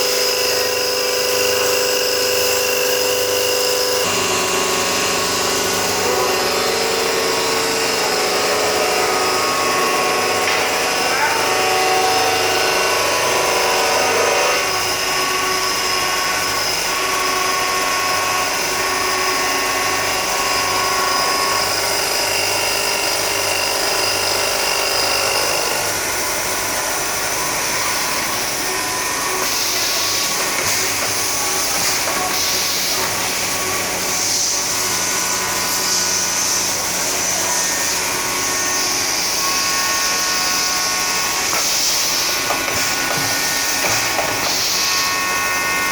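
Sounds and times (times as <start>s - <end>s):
machine whining tones: 0.0s - 45.9s.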